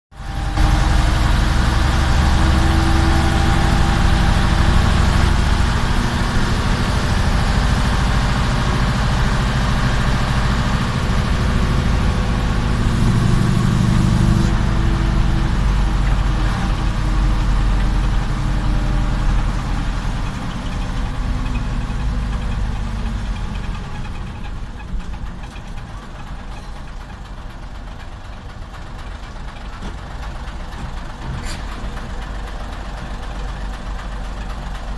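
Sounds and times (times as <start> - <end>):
bus diesel engine rattling: 0.2 - 34.9.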